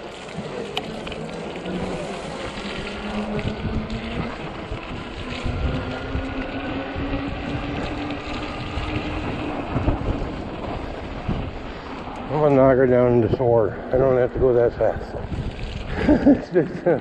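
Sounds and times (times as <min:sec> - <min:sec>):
electric hub motor whining: 0:00.0 - 0:15.9
fat tires rumbling over snowy road: 0:00.0 - 0:17.0
wind on microphone: 0:00.4 - 0:17.0.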